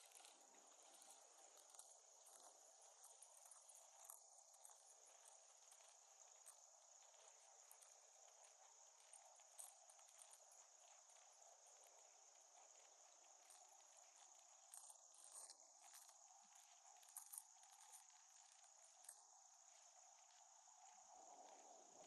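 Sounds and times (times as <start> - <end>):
faint insect chirring: 0.0 - 22.0.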